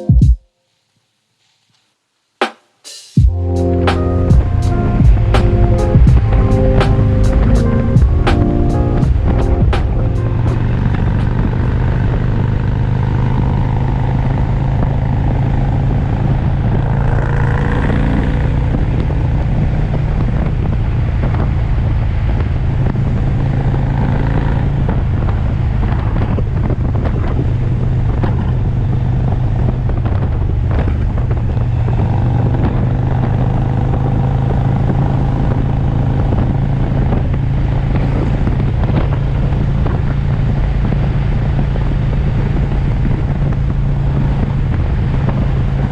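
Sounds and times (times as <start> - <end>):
motorcycle engine running: 3.2 - 45.9
wind rush of riding: 4.4 - 45.9.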